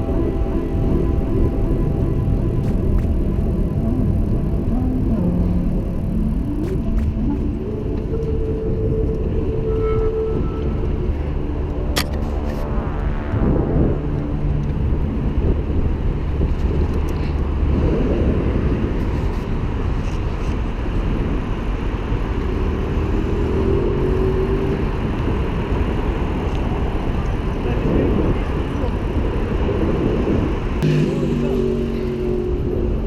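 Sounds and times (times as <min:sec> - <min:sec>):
bike road rumble: 0:00.0 - 0:33.0
vehicle engines passing: 0:00.0 - 0:33.0
wind noise: 0:00.0 - 0:33.0.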